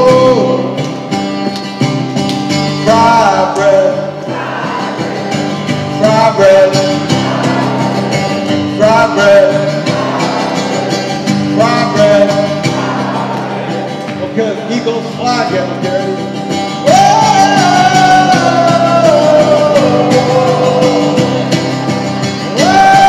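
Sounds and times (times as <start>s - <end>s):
man singing: 0.0s - 0.9s, 2.8s - 23.0s
acoustic guitar strumming: 0.0s - 23.0s.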